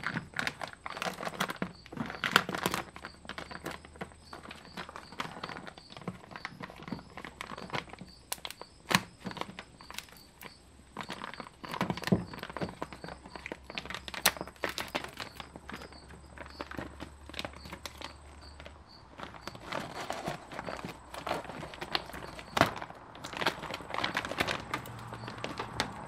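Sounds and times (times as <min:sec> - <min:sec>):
plastic sheet crinkling as peeled: 0:00.0 - 0:26.0.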